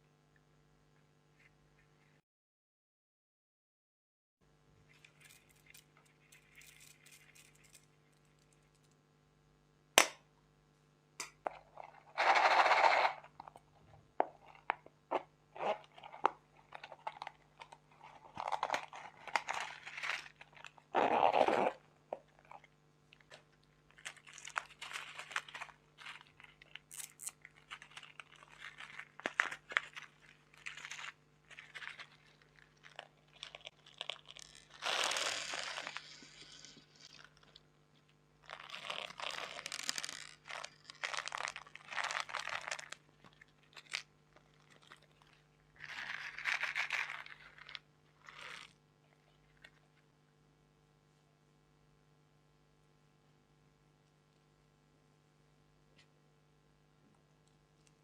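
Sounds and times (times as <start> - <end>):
faint steady hum: 4.4 - 58.0.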